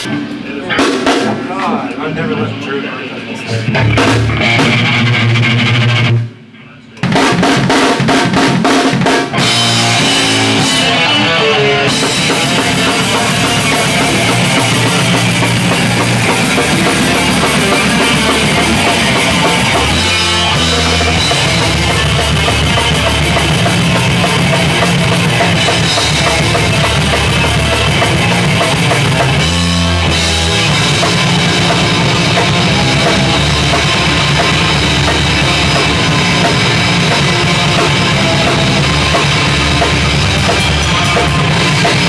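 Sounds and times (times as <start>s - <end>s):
rock band playing loud: 0.0s - 42.0s.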